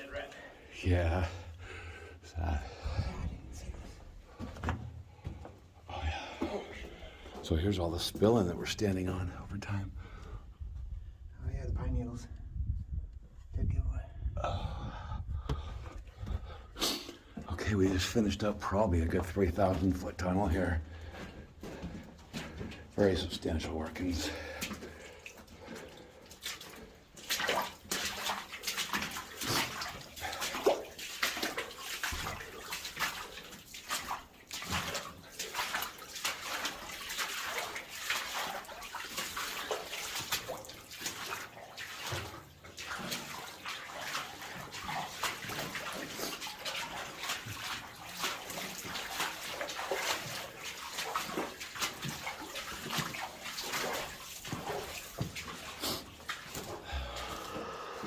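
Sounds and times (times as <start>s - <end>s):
water splashing and sloshing: 0.0s - 11.3s, 14.5s - 58.0s.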